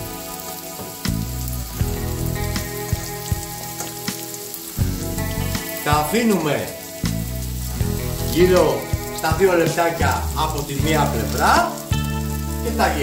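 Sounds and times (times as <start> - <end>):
background music: 0.0 - 13.0
meat sizzling in a pan: 0.0 - 13.0.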